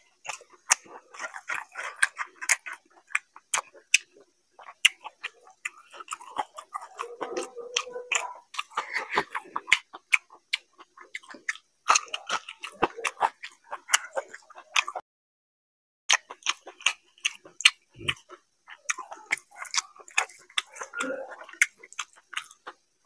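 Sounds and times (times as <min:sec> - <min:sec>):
man chewing food: 0:00.0 - 0:15.0, 0:16.1 - 0:23.0.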